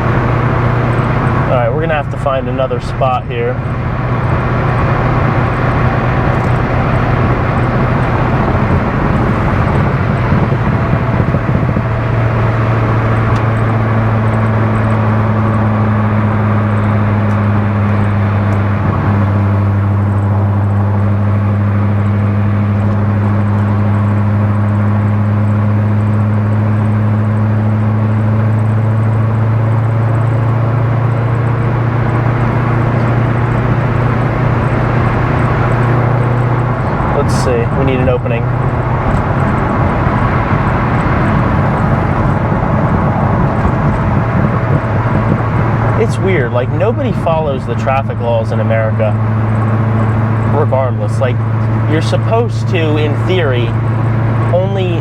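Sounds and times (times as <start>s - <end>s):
car engine cruising drone: 0.0s - 55.0s
road noise: 0.0s - 55.0s.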